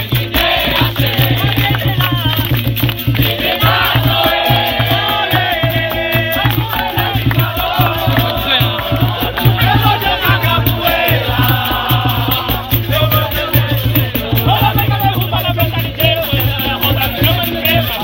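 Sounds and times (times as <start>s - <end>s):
group singing: 0.0s - 18.0s
low drum beat: 0.0s - 18.0s
jingling rattles: 0.6s - 18.0s.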